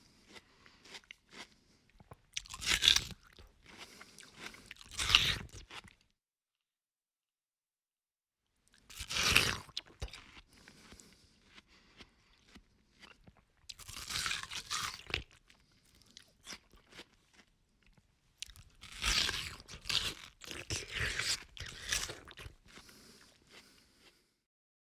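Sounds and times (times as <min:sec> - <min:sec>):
quiet chewing: 0:00.0 - 0:06.0, 0:08.7 - 0:24.4
juicy watermelon crunches: 0:00.1 - 0:06.0, 0:08.8 - 0:24.2.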